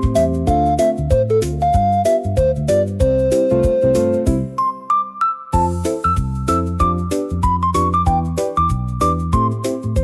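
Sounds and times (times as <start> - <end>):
keyboard melody over a beat: 0.0 - 10.0.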